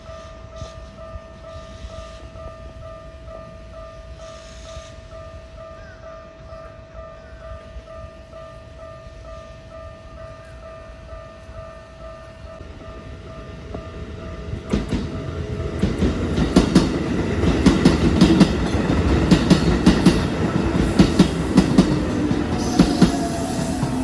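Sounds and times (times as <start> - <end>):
crossing bell ringing: 0.0 - 24.0
electric train passing: 0.0 - 24.0.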